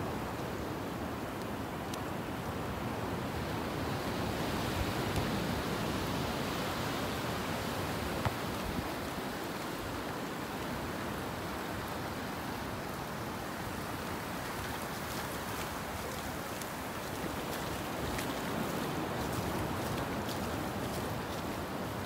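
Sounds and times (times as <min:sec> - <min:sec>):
ocean surf breaking on beach: 0:00.0 - 0:22.0.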